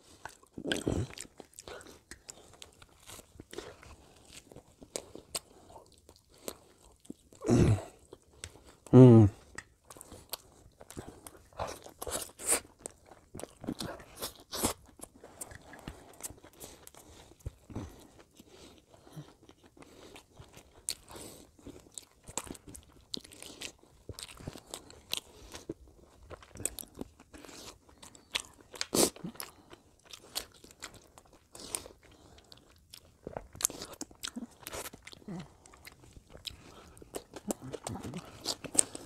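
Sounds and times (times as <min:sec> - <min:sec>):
man chewing food: 0:00.0 - 0:39.0.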